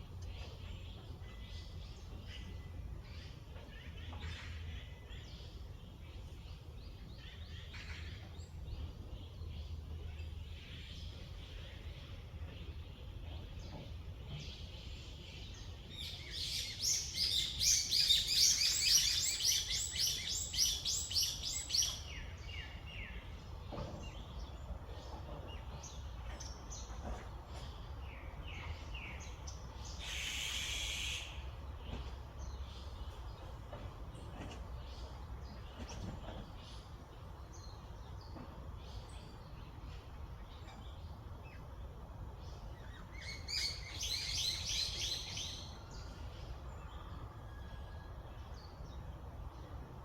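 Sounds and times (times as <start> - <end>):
low background hum: 0.0 - 50.0
wild birds chirping: 0.0 - 50.0.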